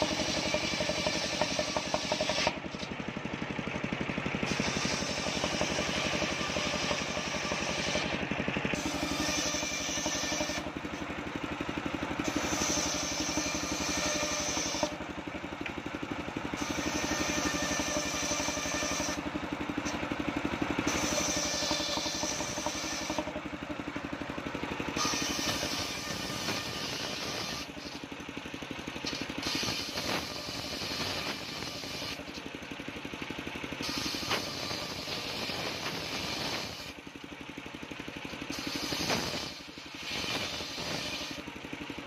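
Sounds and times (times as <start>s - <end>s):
circular saw engine running: 0.0s - 42.0s
saw blade cutting wood: 0.0s - 42.0s.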